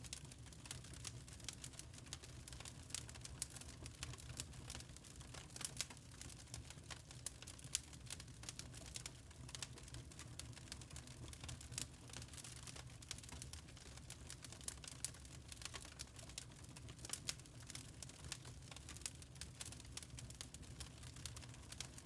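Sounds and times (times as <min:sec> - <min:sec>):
burning charcoal crackling: 0:00.0 - 0:22.0.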